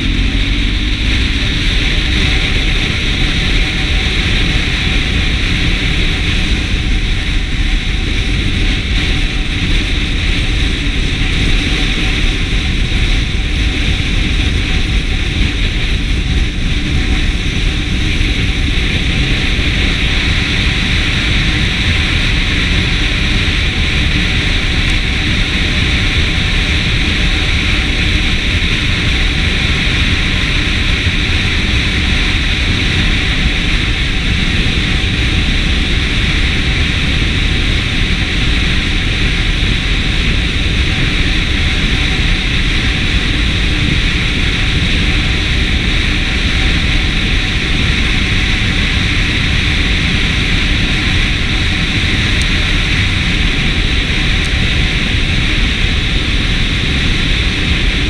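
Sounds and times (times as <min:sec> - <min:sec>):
motorcycle engine rumble: 0:00.0 - 0:58.0
wind rushing over microphone: 0:00.0 - 0:58.0.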